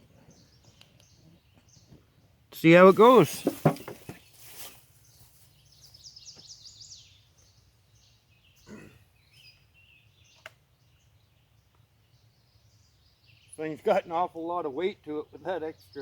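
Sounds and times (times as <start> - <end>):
faint bird song: 0.0 - 16.0.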